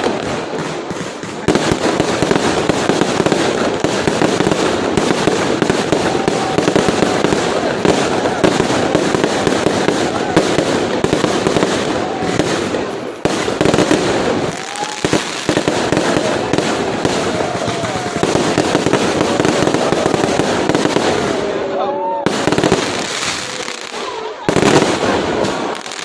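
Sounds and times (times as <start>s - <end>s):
fireworks popping and crackling: 0.0s - 26.0s.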